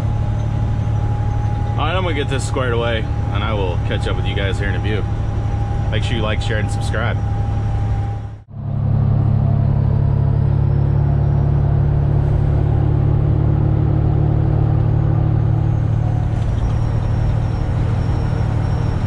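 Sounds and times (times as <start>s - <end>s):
diesel truck engine drone: 0.0s - 19.0s
road noise: 0.0s - 19.0s.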